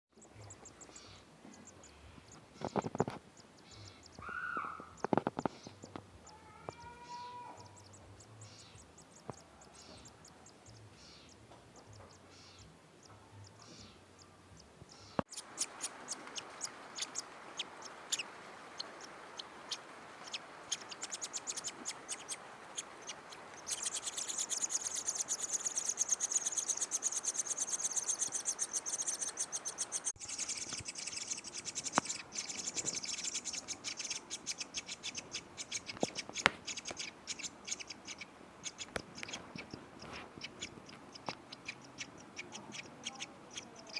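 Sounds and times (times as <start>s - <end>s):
nestlings chirping: 0.1s - 43.9s.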